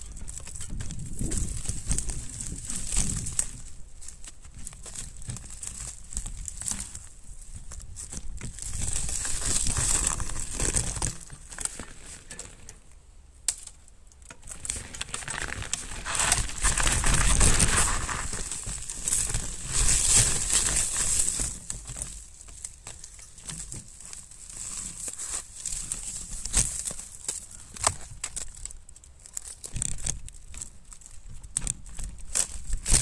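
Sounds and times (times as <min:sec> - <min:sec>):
bike tyres crunching over snow: 0:00.0 - 0:12.8, 0:14.4 - 0:33.0.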